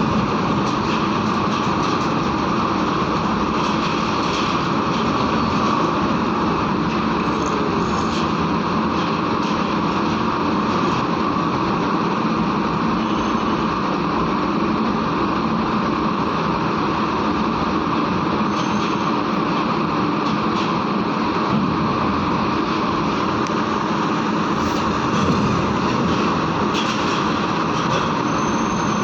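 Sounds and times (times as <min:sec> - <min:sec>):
diesel engines droning: 0:00.0 - 0:29.0.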